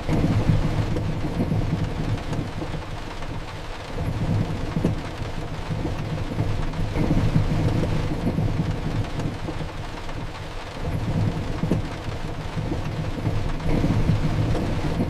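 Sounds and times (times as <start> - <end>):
continuous deep rumble: 0.0 - 15.0
heavy rain falling: 0.0 - 15.0.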